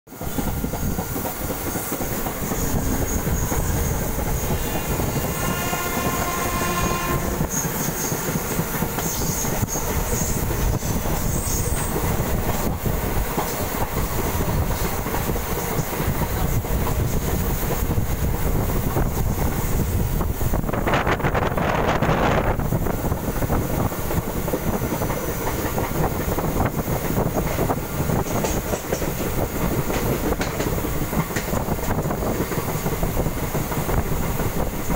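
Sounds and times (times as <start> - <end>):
electric train rumbling: 0.1 - 34.9.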